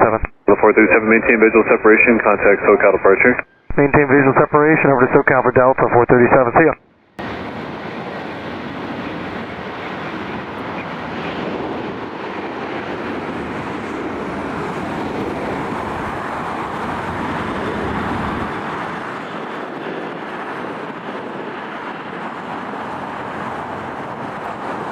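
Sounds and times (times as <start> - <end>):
jet airliner climbing: 0.0 - 24.9.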